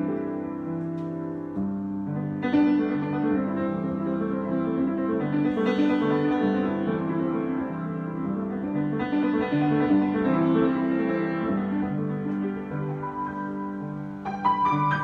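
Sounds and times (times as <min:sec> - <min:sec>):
piano improvisation: 0:00.0 - 0:15.0.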